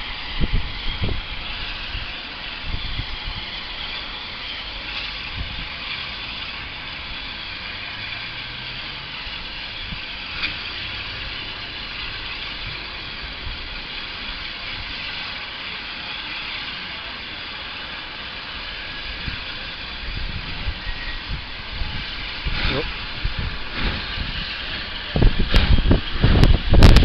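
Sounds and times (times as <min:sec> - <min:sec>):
steam hissing: 0:00.0 - 0:27.0.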